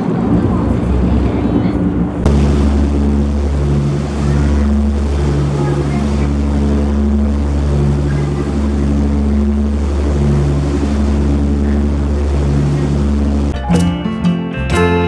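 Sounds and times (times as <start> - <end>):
boat engine droning: 0.0 - 15.0
propeller wake rushing: 0.0 - 15.0.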